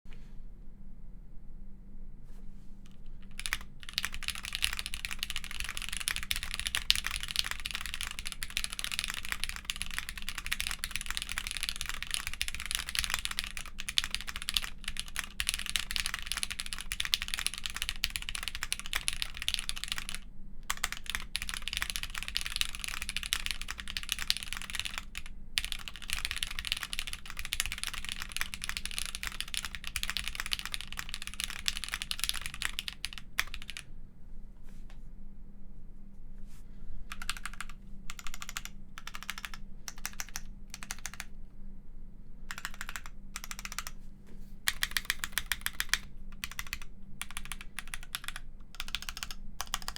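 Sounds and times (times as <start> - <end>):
fast typing on mechanical keyboard: 3.2 - 33.9, 37.1 - 41.3, 42.5 - 44.0, 44.7 - 49.9.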